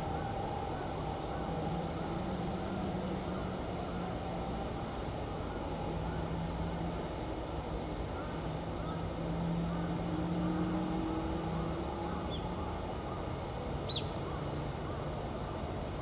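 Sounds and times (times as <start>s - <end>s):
distant traffic drone: 0.0s - 16.0s.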